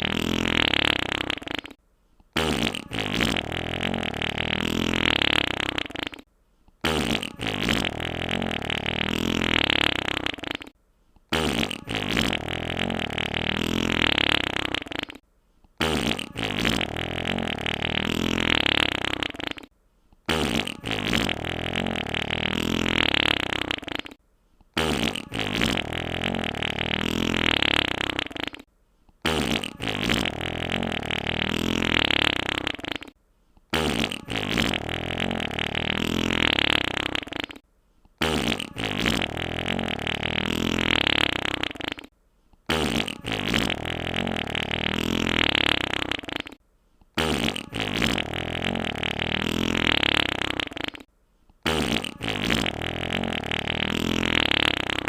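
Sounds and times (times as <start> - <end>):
wet fart: 0.0 - 15.2, 15.8 - 24.2, 24.8 - 37.6, 38.2 - 55.0.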